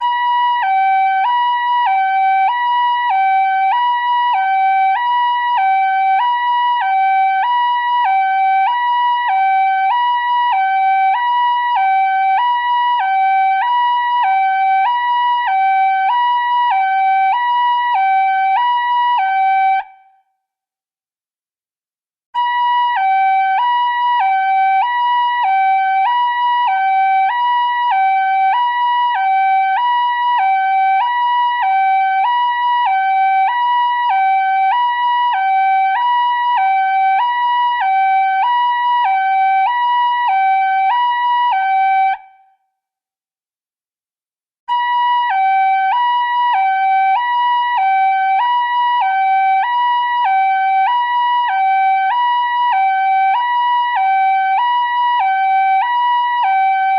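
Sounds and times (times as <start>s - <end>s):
two-pitch hi-lo siren: 0.0s - 20.2s, 22.4s - 42.6s, 44.7s - 56.9s.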